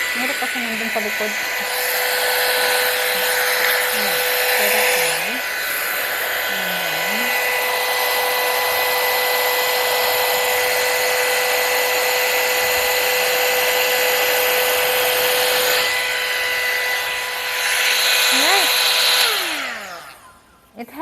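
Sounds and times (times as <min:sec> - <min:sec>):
hair dryer fan whine and air: 0:00.0 - 0:21.0.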